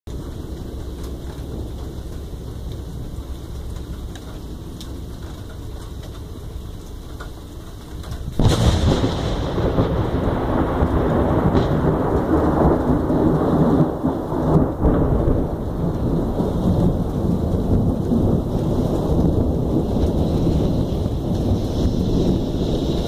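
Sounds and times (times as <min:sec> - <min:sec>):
steady rain: 0:00.1 - 0:23.0
thunder crack and rumble: 0:00.1 - 0:23.0.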